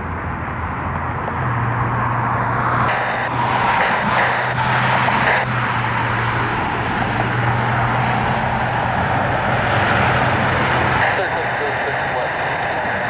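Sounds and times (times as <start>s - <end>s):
low hum: 0.0s - 12.8s
jet airliner engines roaring: 0.0s - 13.0s.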